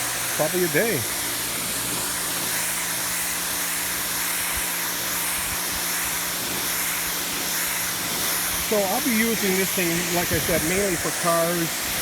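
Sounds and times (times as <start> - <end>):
pressure washer motor hum: 0.0 - 12.0
water jet spraying onto concrete: 0.0 - 12.0.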